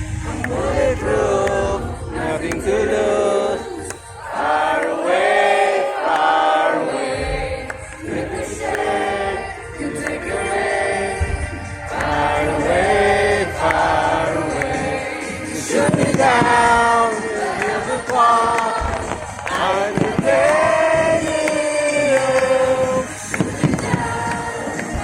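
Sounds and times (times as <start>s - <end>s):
choir singing: 0.0s - 25.0s
low musical accompaniment: 0.0s - 25.0s.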